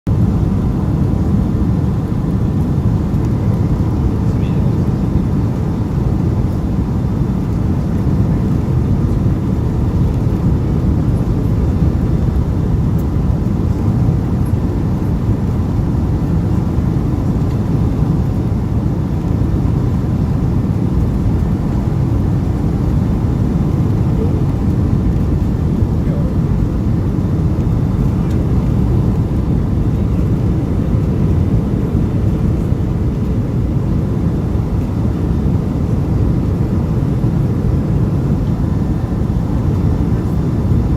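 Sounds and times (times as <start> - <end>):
airliner cabin engine rumble: 0.1 - 40.9.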